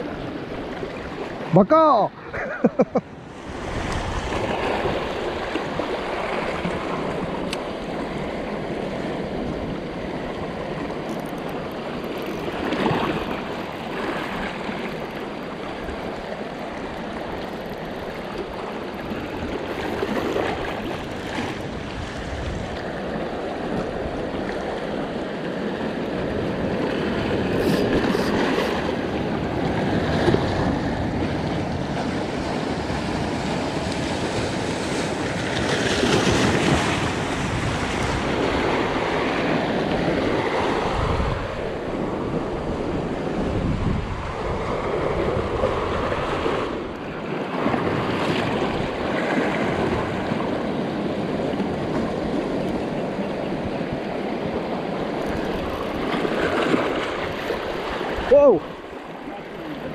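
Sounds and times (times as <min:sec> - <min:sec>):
waves splashing over rocks: 0:00.0 - 0:59.9.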